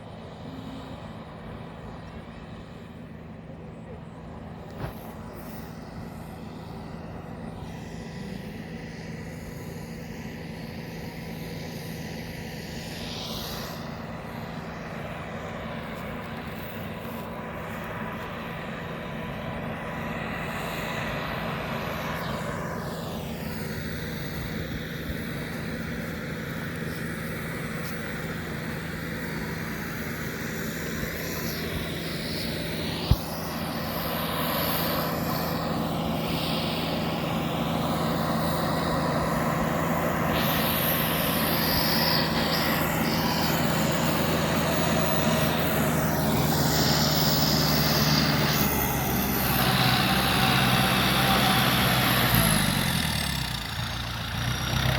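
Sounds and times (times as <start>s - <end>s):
farm machine engine running: 0.0s - 54.9s.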